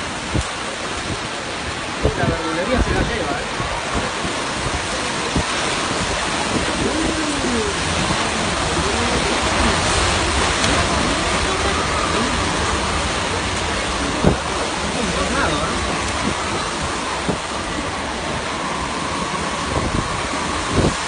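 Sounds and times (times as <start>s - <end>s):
storm wind: 0.0s - 21.0s
torrential rain: 0.0s - 21.0s.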